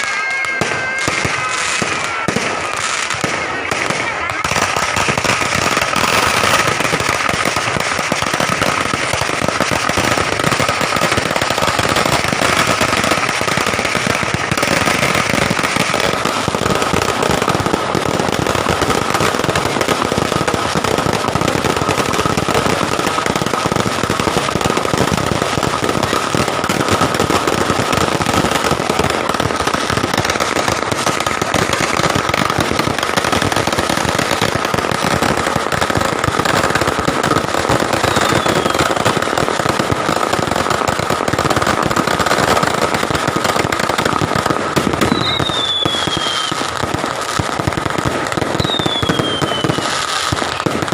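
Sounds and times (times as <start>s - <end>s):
fireworks crackling bangs: 0.0s - 50.9s.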